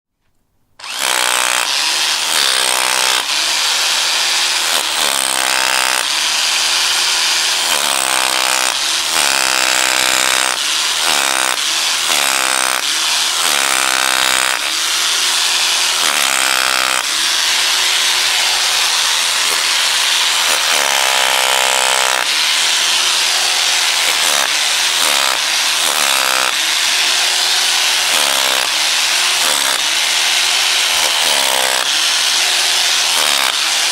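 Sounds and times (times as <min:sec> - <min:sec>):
hammer drill breaking concrete: 0:00.8 - 0:33.9.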